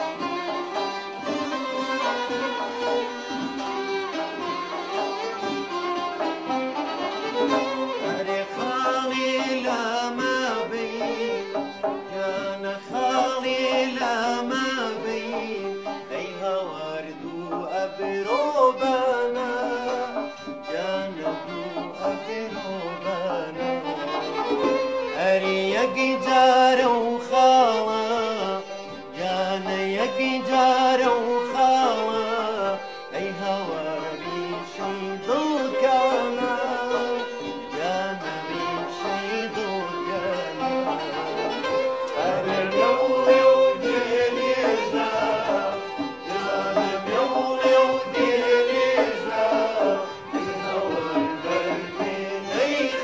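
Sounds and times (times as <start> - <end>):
violin: 0.0 - 53.0
man singing: 7.8 - 24.2, 25.0 - 53.0.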